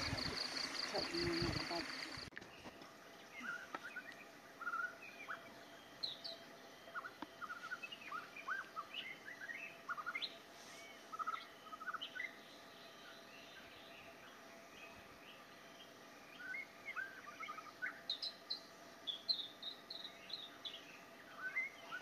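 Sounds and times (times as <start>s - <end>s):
birds chirping: 0.0s - 22.0s
faint outdoor hiss: 0.0s - 22.0s.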